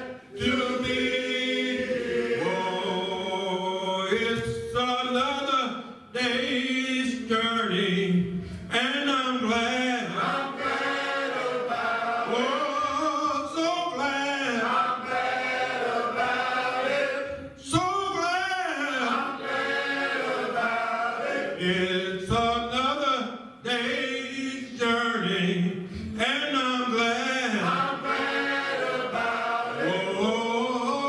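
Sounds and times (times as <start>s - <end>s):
men's choir singing: 0.0s - 5.2s, 9.4s - 31.0s.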